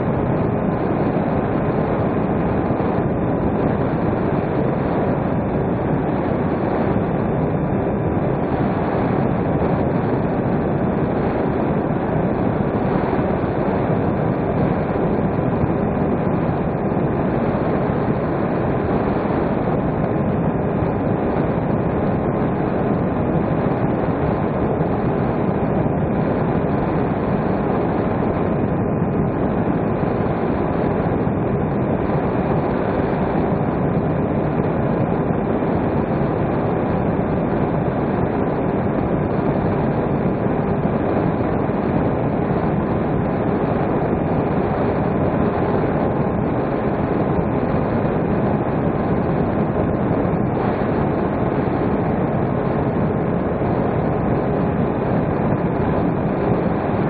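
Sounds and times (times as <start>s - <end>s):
motor and propeller whine: 0.0s - 57.0s.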